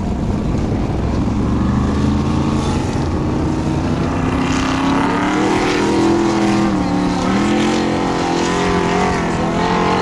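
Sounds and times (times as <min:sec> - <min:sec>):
race car engine revving hard: 0:01.2 - 0:10.0.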